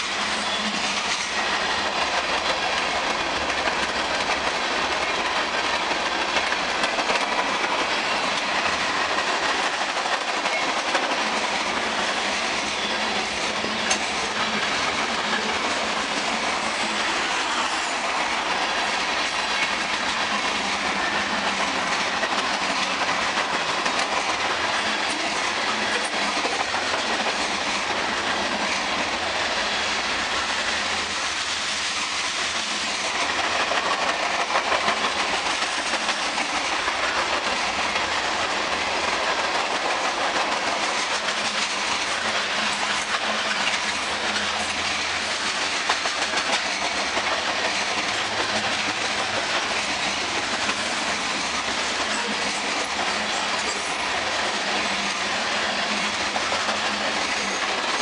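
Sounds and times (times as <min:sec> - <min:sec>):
freight train wheels rumbling: 0:00.0 - 0:58.0
train cars clattering: 0:00.0 - 0:58.0.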